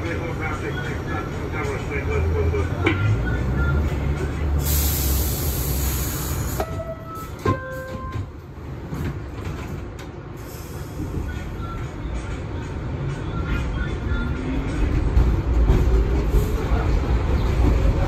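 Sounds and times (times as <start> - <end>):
subway car rumble: 0.0 - 18.0.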